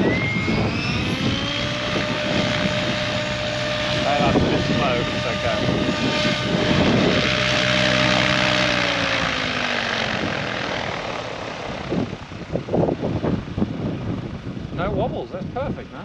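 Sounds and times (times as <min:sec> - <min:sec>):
helicopter motor and rotor winding down: 0:00.0 - 0:16.0.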